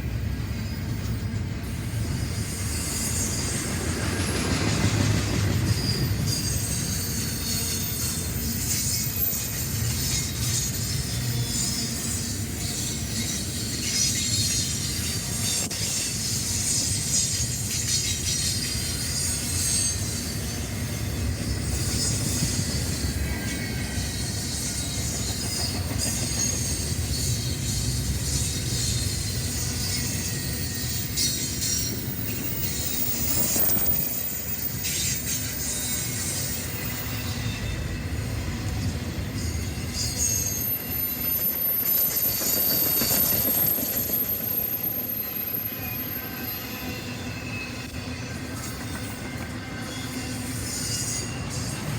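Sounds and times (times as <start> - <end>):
train rumbling past: 0.0 - 51.9
wheels squealing on rails: 0.0 - 51.9.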